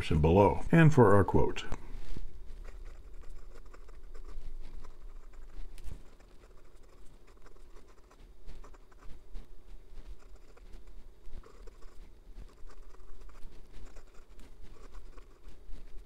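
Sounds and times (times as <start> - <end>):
fountain pen scratching paper: 2.5 - 16.0.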